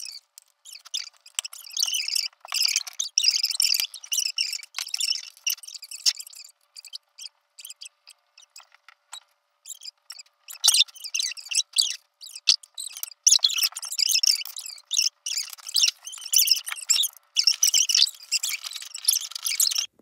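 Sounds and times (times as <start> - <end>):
squeaky scrubbing strokes: 0.0 - 19.9.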